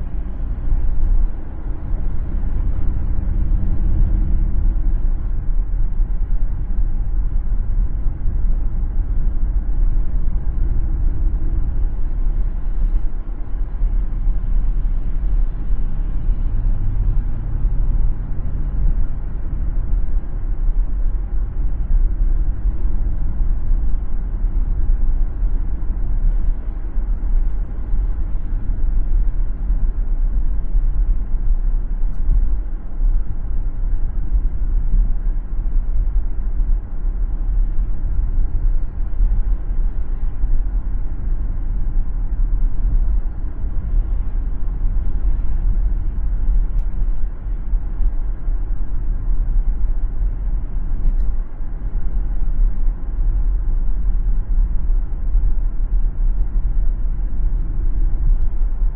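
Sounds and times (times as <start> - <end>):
car tyres and engine rumbling: 0.0 - 58.9.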